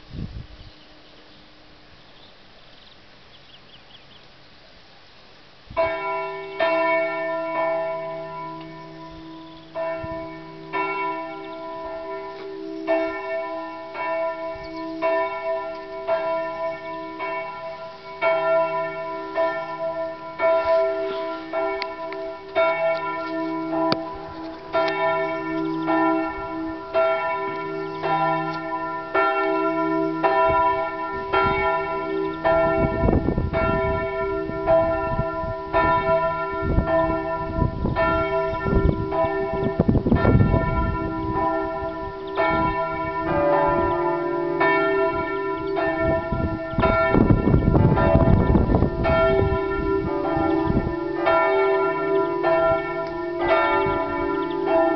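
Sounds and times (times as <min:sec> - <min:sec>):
church bells pealing: 0:05.8 - 0:54.9.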